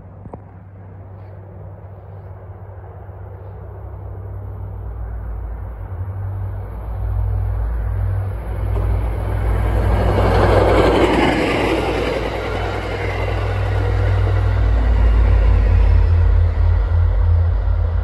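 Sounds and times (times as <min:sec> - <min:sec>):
train passing with deep rumble: 0:00.0 - 0:18.0
wheels on rail: 0:00.0 - 0:18.0.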